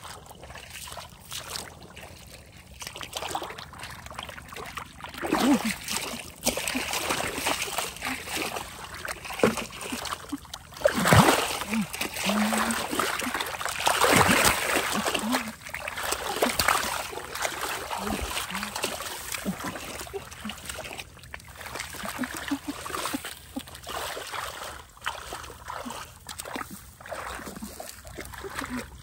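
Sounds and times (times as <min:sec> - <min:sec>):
splashing in muddy water: 0:00.0 - 0:29.0.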